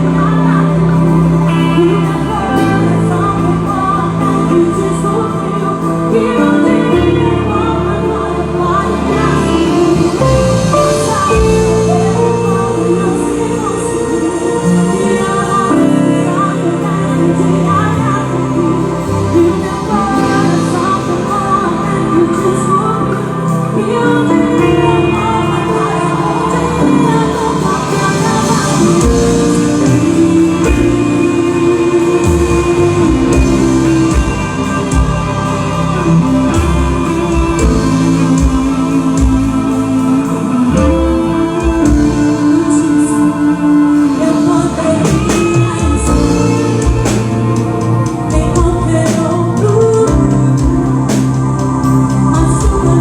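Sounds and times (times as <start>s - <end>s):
band playing: 0.0s - 53.0s
person singing: 0.0s - 53.0s.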